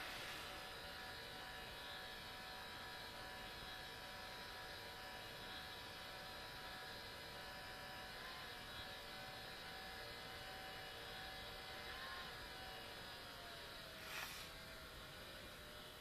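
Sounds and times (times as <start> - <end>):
laptop cooling fan whine: 0.0 - 16.0.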